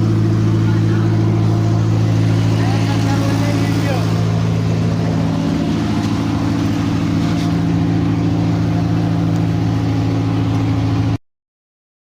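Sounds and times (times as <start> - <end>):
generator engine running: 0.0 - 11.2.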